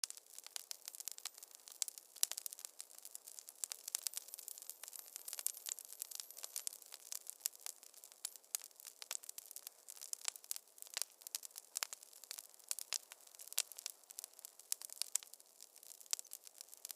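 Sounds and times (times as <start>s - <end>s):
fireplace fire crackling: 0.0s - 16.9s.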